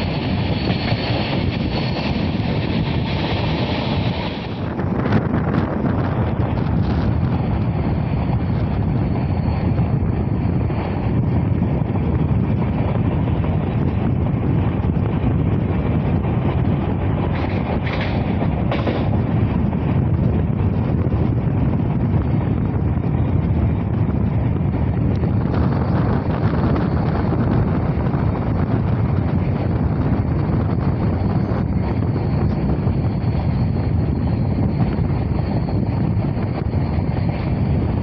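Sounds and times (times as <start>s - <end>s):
moving train running noise: 0.0s - 38.0s
wind buffeting microphone: 0.0s - 38.0s.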